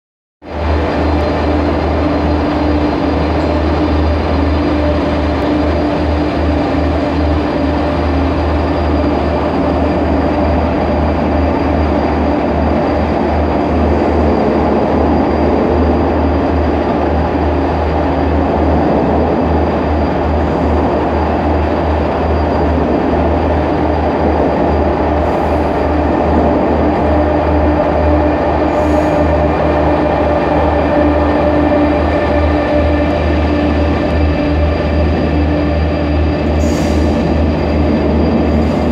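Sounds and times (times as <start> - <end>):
train wheels rumbling on rail: 0.4 - 38.9.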